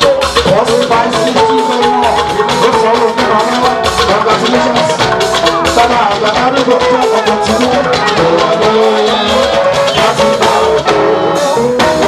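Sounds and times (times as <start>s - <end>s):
drums: 0.0s - 12.0s
upbeat music: 0.0s - 12.0s.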